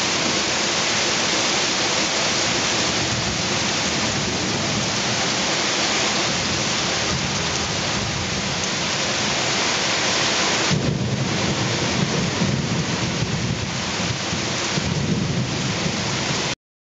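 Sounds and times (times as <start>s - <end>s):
heavy rain falling: 0.0s - 16.6s
thunder rumbling: 2.1s - 16.5s.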